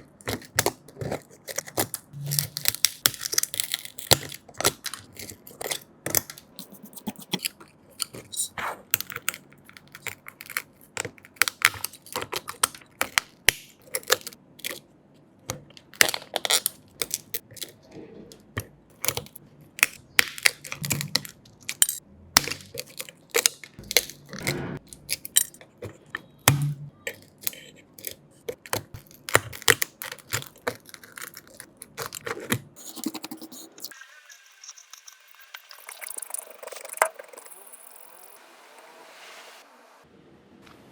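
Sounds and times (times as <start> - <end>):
small tools clicking and scraping: 0.0 - 14.8, 15.5 - 34.0.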